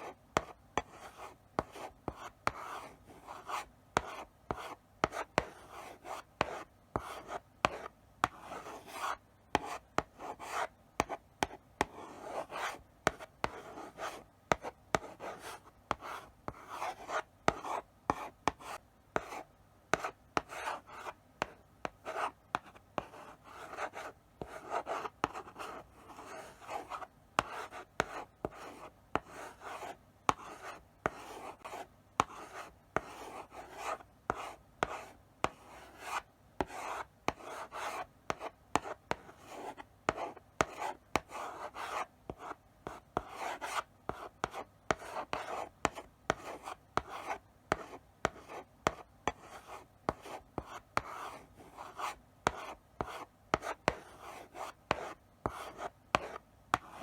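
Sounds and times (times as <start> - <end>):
chalk scratching on blackboard: 0.0 - 57.0
chalk tapping on board: 3.4 - 57.0.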